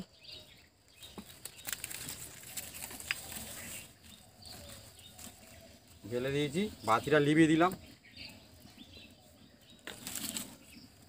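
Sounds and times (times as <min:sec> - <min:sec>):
burning sticks crackling: 0:00.8 - 0:11.0.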